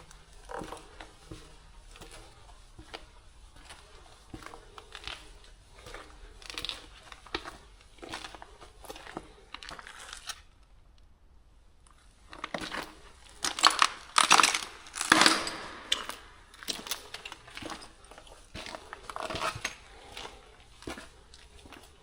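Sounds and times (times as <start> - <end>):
footsteps crunching on debris: 0.0 - 10.3, 12.3 - 22.0.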